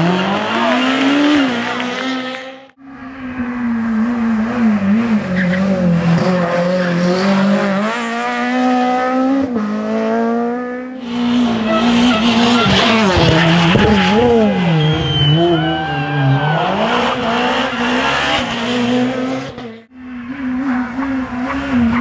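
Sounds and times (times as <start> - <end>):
rally car accelerating hard: 0.0 - 2.7, 3.4 - 22.0
car engine revving: 0.0 - 22.0.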